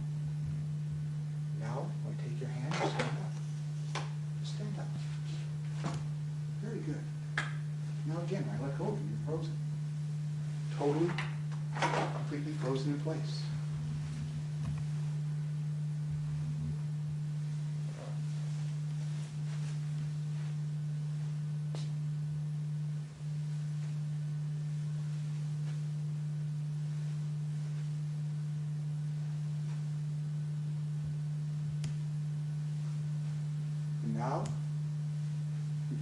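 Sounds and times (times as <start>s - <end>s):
low-pitched hum: 0.0s - 36.0s.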